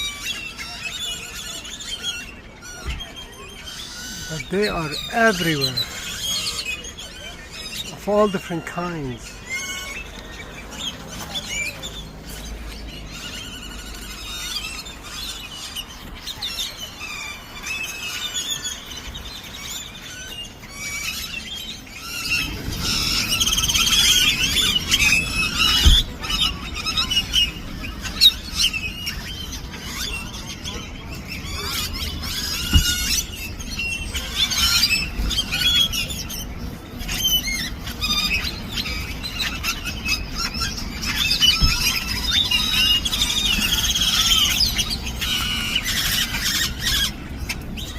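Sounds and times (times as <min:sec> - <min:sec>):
flock of birds chirping: 0:00.0 - 0:47.9.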